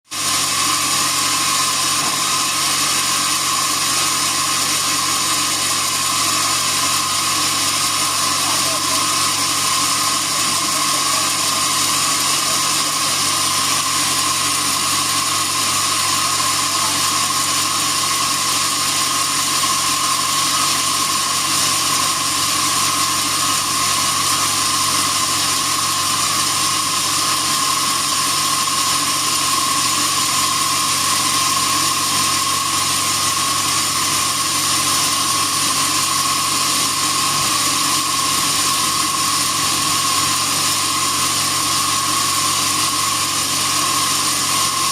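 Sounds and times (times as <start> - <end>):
bandsaw running with high whine: 0.0 - 44.9.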